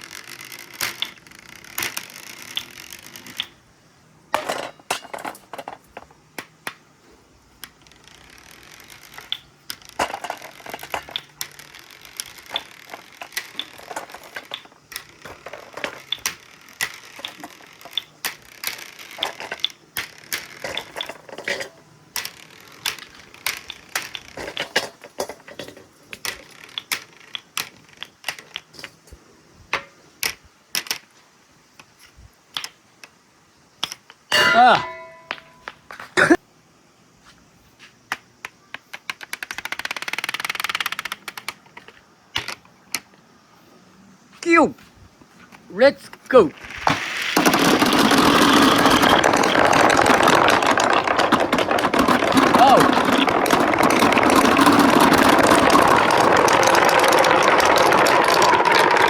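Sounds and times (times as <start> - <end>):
marbles clacking on metal track: 0.0 - 3.6, 4.3 - 6.8, 7.6 - 31.0, 33.8 - 35.8, 39.0 - 43.0, 46.3 - 59.0.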